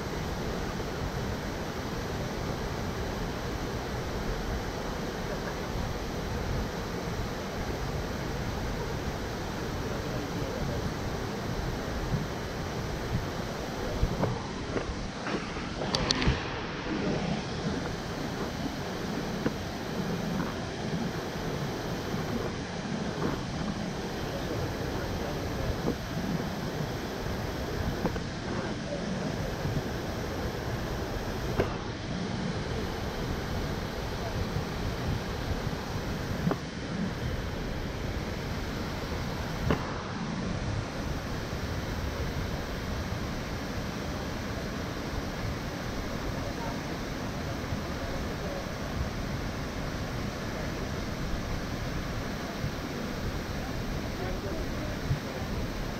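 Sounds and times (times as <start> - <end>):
waterfall roaring: 0.0 - 55.9.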